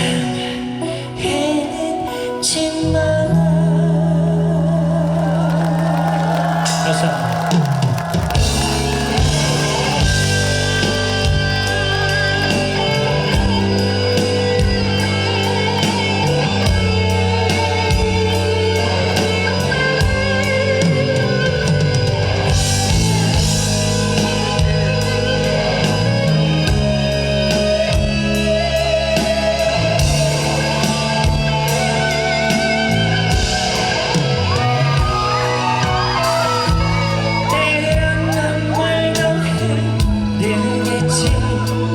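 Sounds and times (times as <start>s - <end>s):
bass: 0.0s - 41.9s
electric guitar: 0.0s - 41.9s
drum kit: 5.1s - 41.9s.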